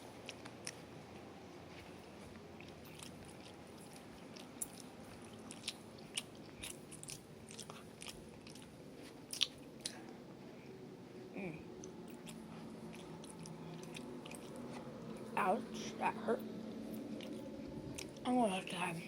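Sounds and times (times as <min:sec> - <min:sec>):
person chewing food: 0:00.1 - 0:10.3, 0:11.7 - 0:15.9, 0:16.6 - 0:18.3.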